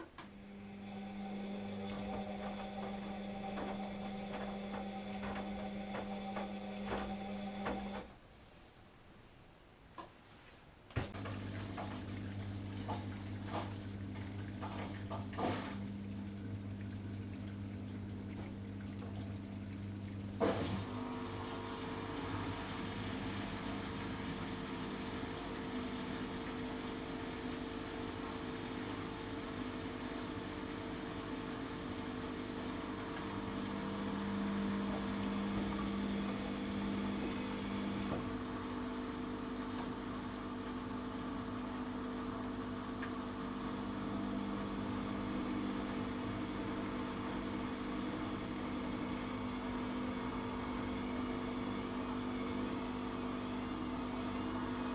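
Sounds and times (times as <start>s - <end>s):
washing machine humming: 0.0s - 8.7s, 10.0s - 54.9s.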